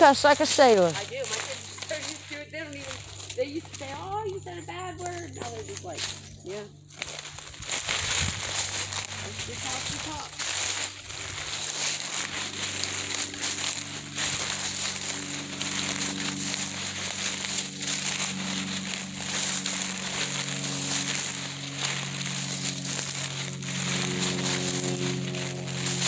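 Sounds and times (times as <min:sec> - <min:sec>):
footsteps crunching through dry leaves: 0:00.0 - 0:26.0.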